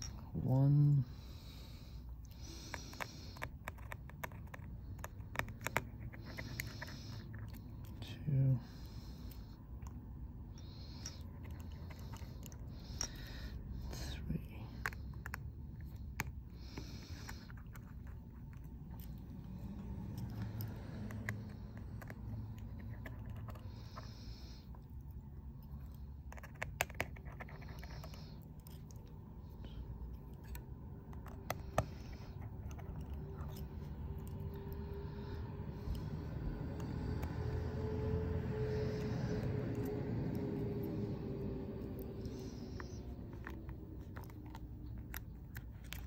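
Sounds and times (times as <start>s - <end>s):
low background rumble: 0.0s - 46.0s.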